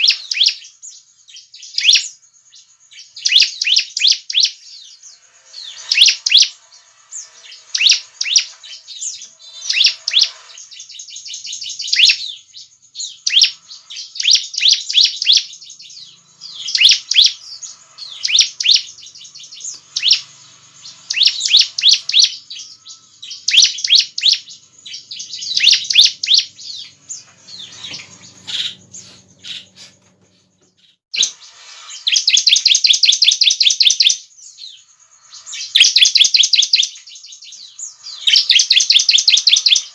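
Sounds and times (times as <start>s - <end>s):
bird singing high chirps and trill: 0.0s - 39.9s.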